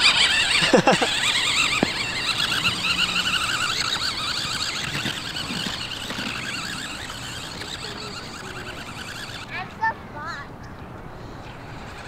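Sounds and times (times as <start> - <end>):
toy electric motor whining: 0.0 - 9.9, 11.3 - 12.0.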